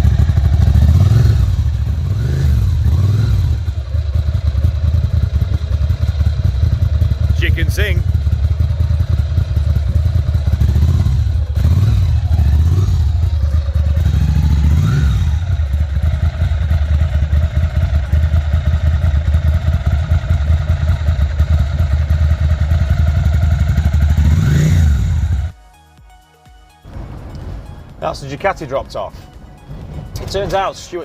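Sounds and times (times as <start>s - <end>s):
motorcycle engine idling and revving: 0.0s - 25.6s.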